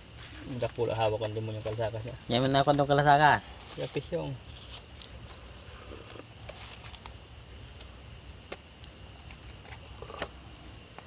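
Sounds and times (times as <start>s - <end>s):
crickets trilling: 0.0s - 11.0s
quick cricket chirps: 0.0s - 11.0s.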